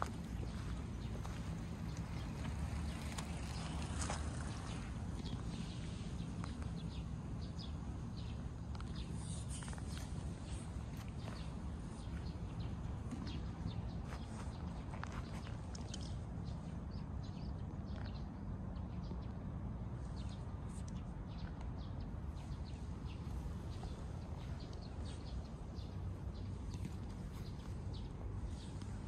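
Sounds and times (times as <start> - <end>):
small birds chirping: 0.0 - 29.0
steady low rumble: 0.0 - 29.0.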